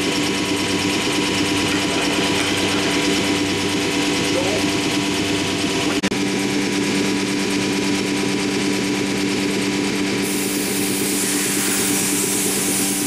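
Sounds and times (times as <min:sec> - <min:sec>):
machine mechanical hum: 0:00.0 - 0:13.0.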